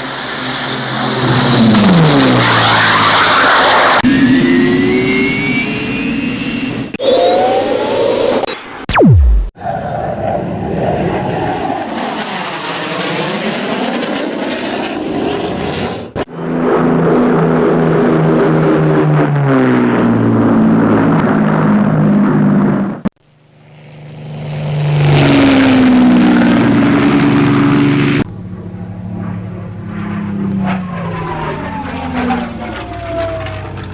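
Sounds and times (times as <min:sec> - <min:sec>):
aeroplane engine passing: 0:00.0 - 0:08.4, 0:09.0 - 0:23.0, 0:23.6 - 0:33.9.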